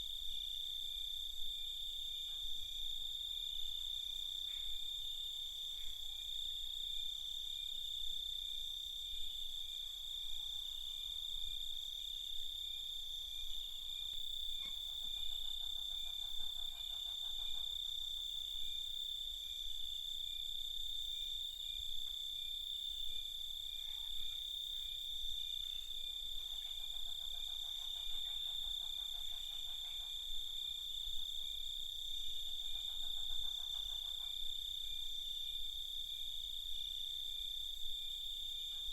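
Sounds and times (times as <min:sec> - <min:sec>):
faint high insect tones: 0:00.0 - 0:38.9
low rapidly pulsed insect calls: 0:00.0 - 0:38.9.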